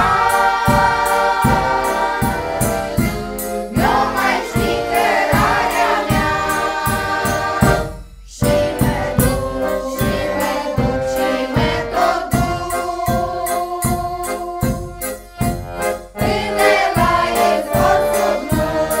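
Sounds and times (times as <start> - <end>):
women singing: 0.0 - 14.8, 16.2 - 19.0
accordion: 0.0 - 19.0
frame drum beating: 0.0 - 19.0.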